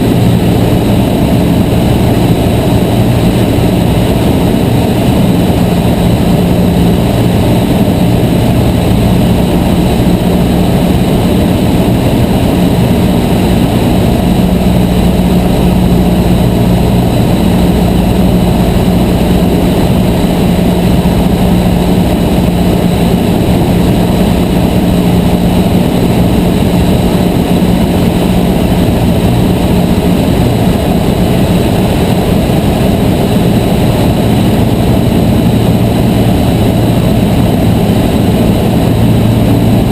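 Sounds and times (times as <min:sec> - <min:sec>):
constant low hum: 0:00.0 - 0:39.9
plane engine and propeller droning: 0:00.0 - 0:39.9.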